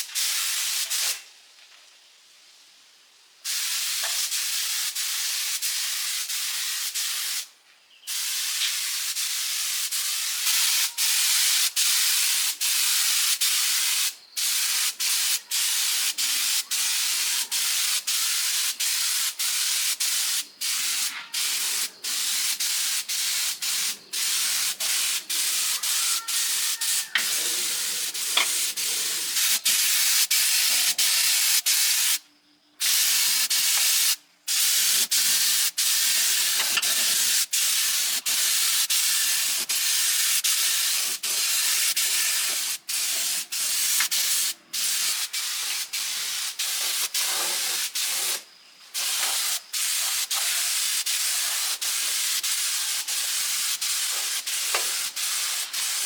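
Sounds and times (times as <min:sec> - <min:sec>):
compressed air spraying on metal: 0:00.0 - 0:01.2, 0:03.4 - 0:07.5, 0:08.1 - 0:32.2, 0:32.8 - 0:56.0.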